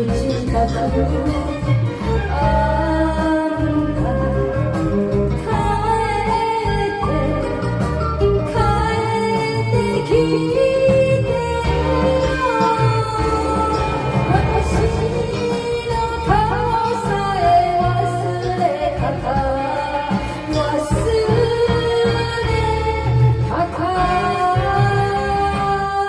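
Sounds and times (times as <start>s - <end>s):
karaoke backing track: 0.0s - 26.0s
woman singing into microphone: 0.0s - 26.0s.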